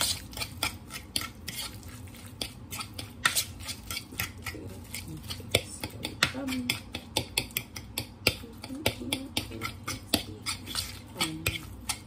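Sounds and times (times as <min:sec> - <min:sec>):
utensil mashing in a bowl: 0:00.0 - 0:12.0.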